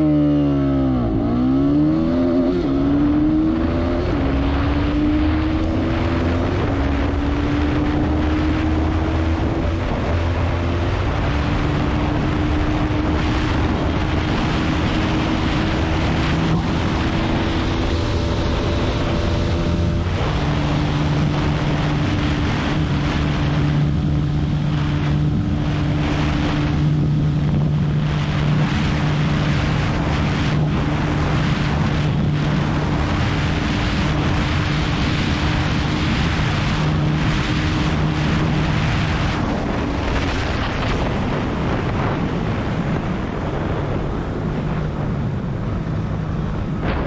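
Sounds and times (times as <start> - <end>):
motorcycle engine at high revs: 0.0 - 45.1
wind noise on microphone: 0.0 - 47.0.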